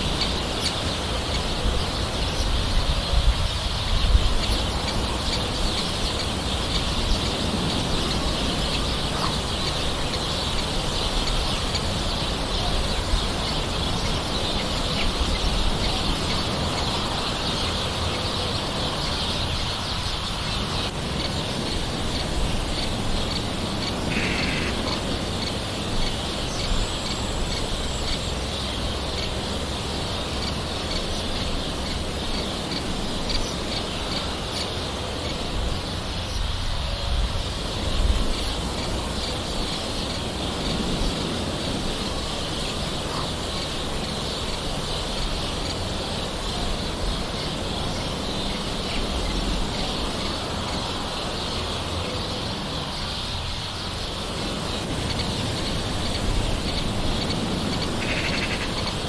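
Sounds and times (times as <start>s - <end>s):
birds calling: 0.0s - 59.0s.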